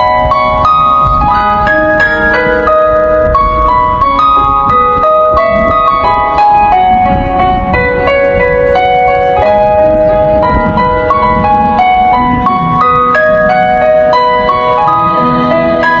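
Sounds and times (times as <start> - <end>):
electronic keyboard melody: 0.0 - 16.0
wind rumbling on microphone: 0.0 - 16.0.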